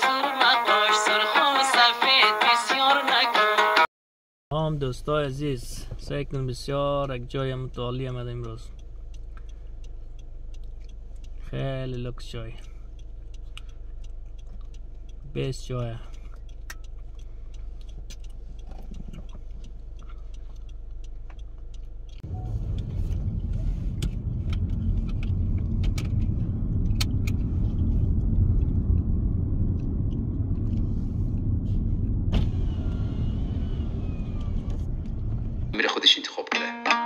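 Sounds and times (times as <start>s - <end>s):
car engine and tyre rumble: 4.6s - 35.8s.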